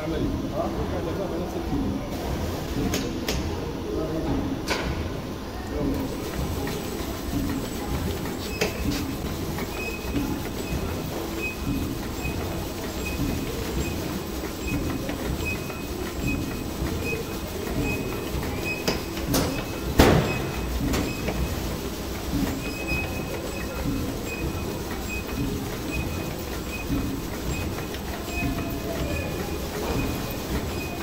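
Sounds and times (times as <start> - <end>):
machine clattering: 5.9 - 31.0.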